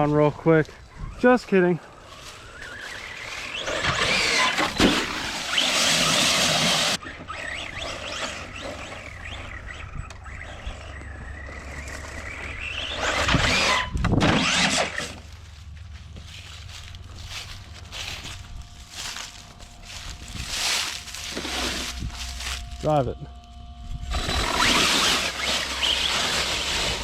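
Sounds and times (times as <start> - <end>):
electric motor whining: 0.0 - 27.0.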